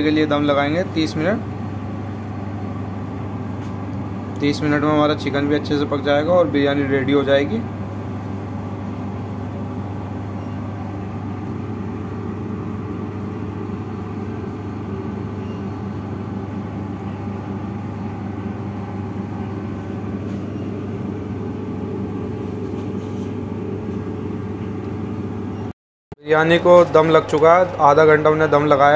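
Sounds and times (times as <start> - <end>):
low machine hum: 0.0 - 25.7.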